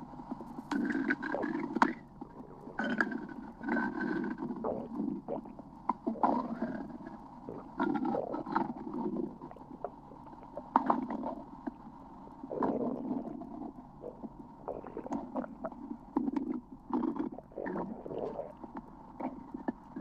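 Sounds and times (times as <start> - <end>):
stomach growling: 0.0 - 20.0.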